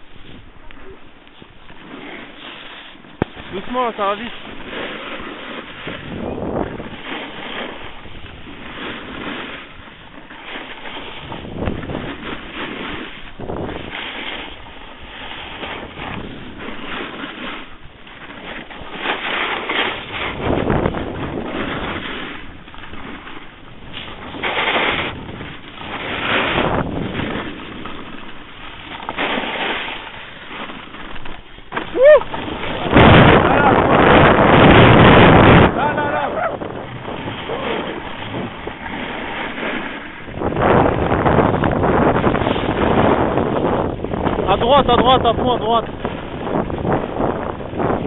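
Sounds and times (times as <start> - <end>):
skis scraping over snow: 0.0 - 48.0
wind buffeting microphone: 0.0 - 48.0.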